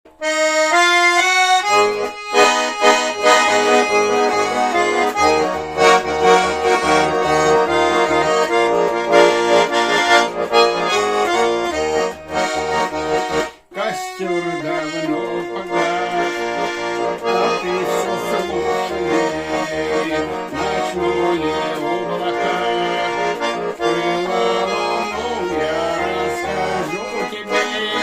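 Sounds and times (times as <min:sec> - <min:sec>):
button accordion playing: 0:00.1 - 0:28.0.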